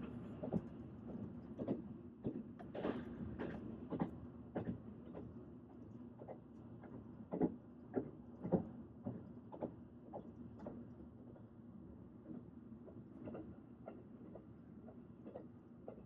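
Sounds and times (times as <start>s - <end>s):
train low hum: 0.0s - 16.0s.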